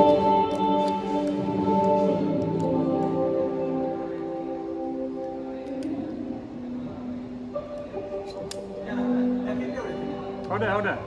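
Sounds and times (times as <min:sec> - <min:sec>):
sustained keyboard chords: 0:00.0 - 0:11.0.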